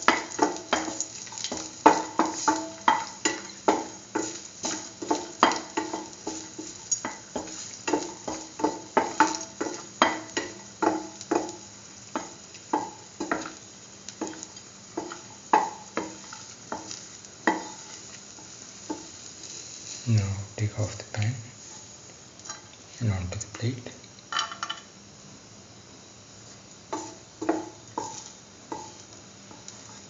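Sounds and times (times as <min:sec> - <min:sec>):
faint sizzle: 0:00.0 - 0:30.0.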